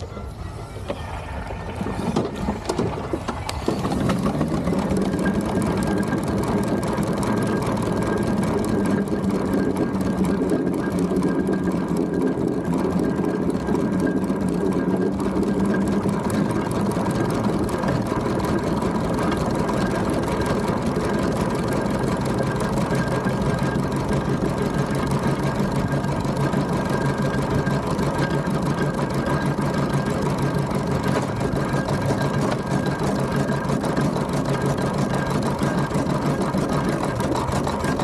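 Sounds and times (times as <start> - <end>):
steam traction engine running: 0.0 - 38.0.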